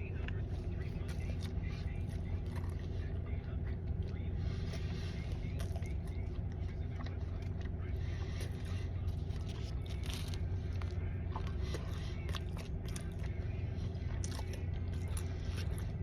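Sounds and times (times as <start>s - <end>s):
person chewing a sandwich: 0.0s - 16.0s
steady low hum: 0.0s - 16.0s.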